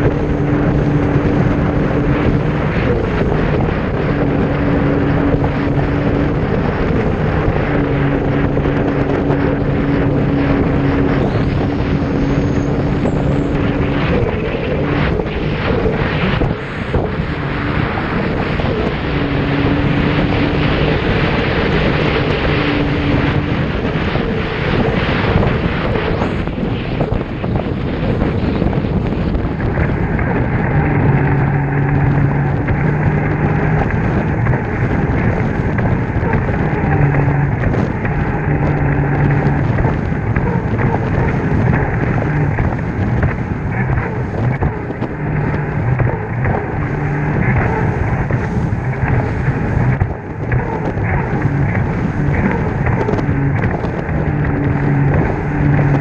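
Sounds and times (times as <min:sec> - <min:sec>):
jet ski engine drone: 0:00.0 - 0:56.0
wind rushing on microphone: 0:00.0 - 0:56.0.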